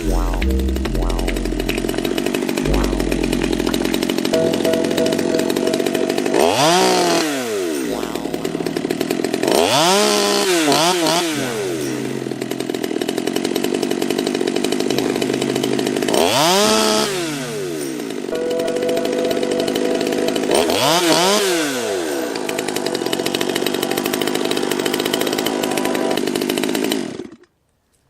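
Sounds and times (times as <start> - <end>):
chainsaw engine revving: 0.0 - 27.5.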